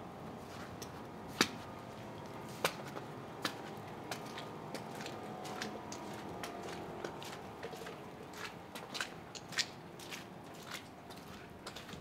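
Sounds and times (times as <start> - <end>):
footsteps crunching in snow: 0.4 - 12.0.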